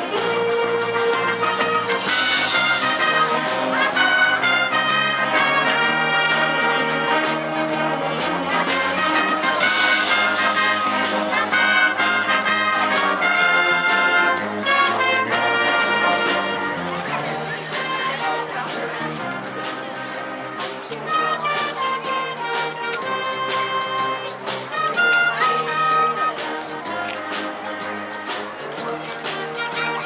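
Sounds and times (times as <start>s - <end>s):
brass section: 0.0s - 30.0s
school band playing: 0.0s - 30.0s.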